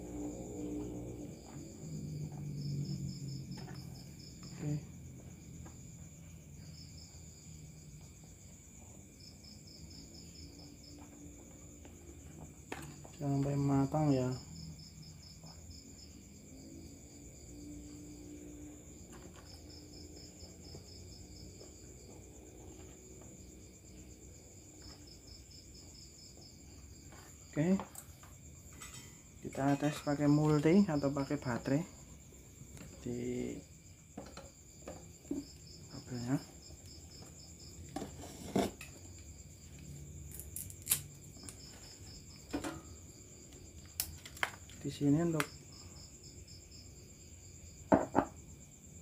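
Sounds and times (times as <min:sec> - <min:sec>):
insect trill: 0:00.0 - 0:49.0
pulsing insect chirp: 0:00.0 - 0:49.0.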